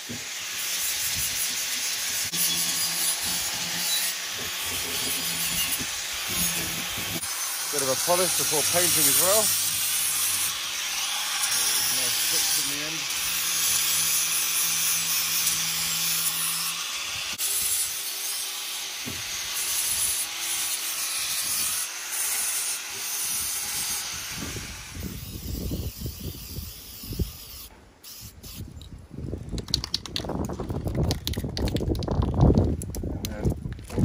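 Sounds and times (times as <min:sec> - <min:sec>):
angle grinder grinding metal: 0:00.0 - 0:28.6.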